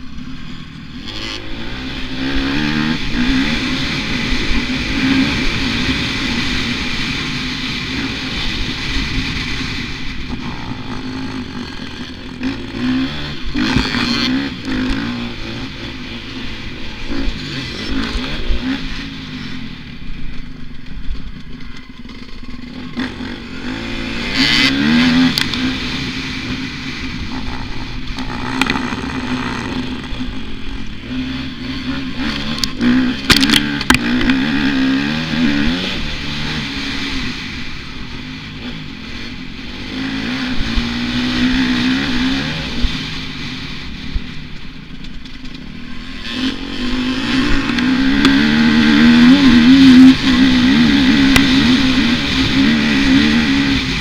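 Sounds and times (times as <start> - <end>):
clatter over rough ground: 0.0 - 54.0
dirt bike engine revving: 0.0 - 54.0.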